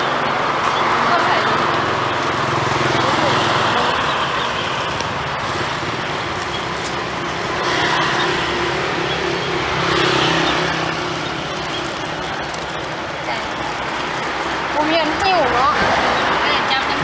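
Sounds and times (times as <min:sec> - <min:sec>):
cars and motorbikes passing: 0:00.0 - 0:17.0.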